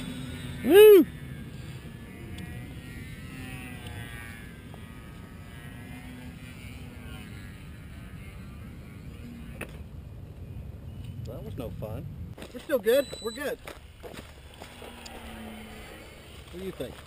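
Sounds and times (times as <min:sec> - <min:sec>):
model plane motor whine: 0:00.0 - 0:11.5, 0:12.7 - 0:17.0.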